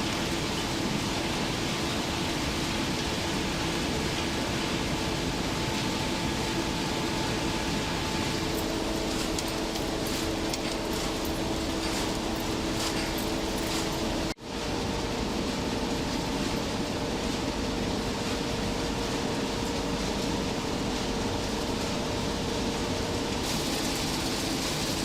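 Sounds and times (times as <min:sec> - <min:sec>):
industrial machinery hum: 0:00.0 - 0:25.0.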